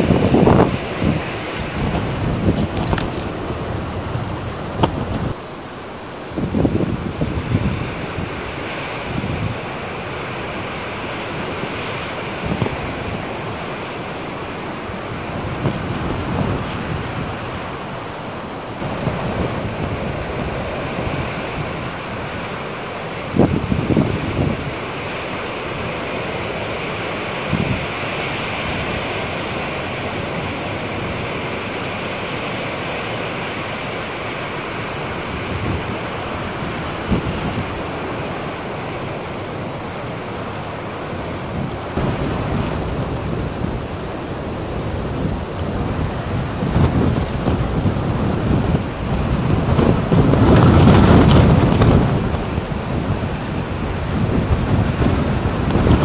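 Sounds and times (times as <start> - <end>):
wind buffeting microphone: 0.0 - 56.0
wind rushing through trees: 0.0 - 56.0.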